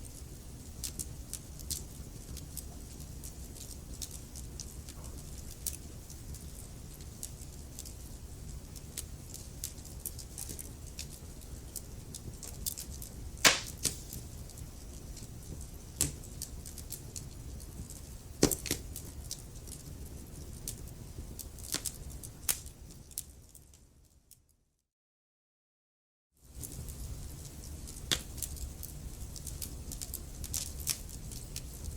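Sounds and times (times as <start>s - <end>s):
wood fire crackling: 0.1s - 23.8s, 26.5s - 31.9s.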